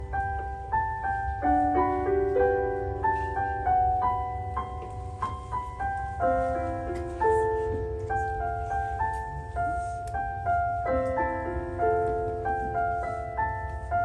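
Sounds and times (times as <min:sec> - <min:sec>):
slow gentle piano melody: 0:00.0 - 0:14.0
steady low hum: 0:00.0 - 0:14.0.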